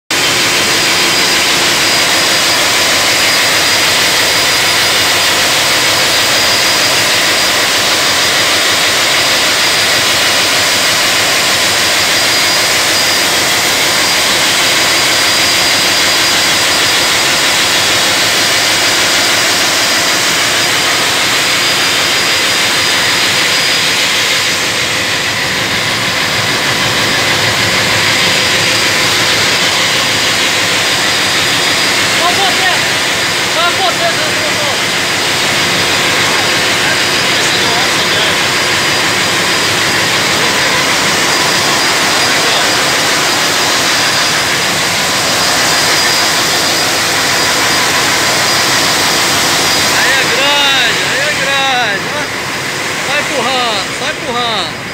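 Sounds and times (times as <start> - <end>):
diesel engine-room din: 0.0 - 54.9
steady high tones: 0.1 - 54.9.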